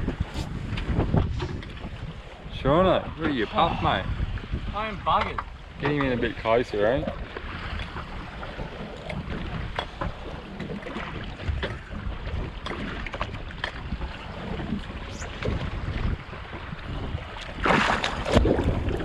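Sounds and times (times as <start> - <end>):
water sloshing against hull: 0.0 - 19.0
wind buffeting microphone: 0.0 - 19.0.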